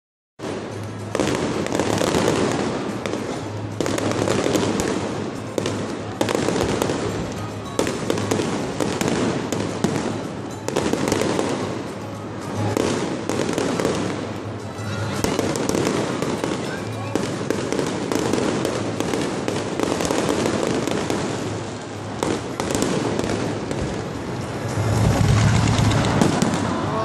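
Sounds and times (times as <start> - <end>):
firework shells bursting: 0.4 - 27.0.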